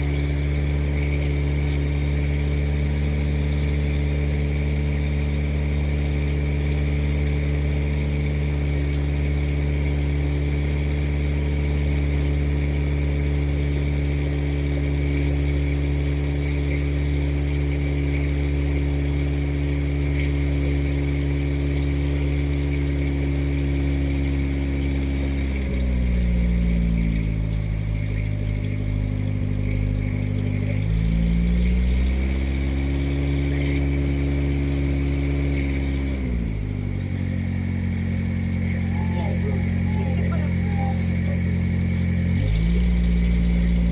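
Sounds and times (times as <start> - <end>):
motorboat engine running: 0.0 - 43.9.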